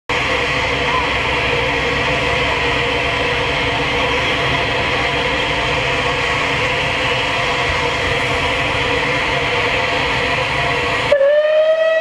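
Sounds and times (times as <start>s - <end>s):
steam locomotive rumble and hiss: 0.1s - 12.0s.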